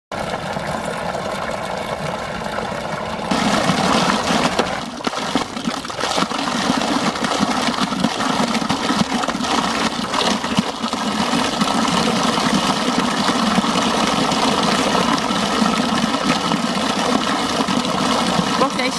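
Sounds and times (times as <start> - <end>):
stream pouring from pipe: 0.1 - 18.9
water rushing in gutter: 0.1 - 18.9.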